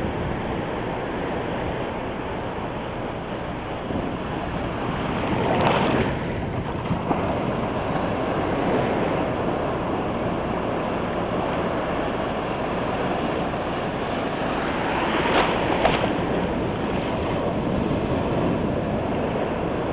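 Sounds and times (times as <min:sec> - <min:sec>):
small surf washing on sand: 0:00.0 - 0:19.9.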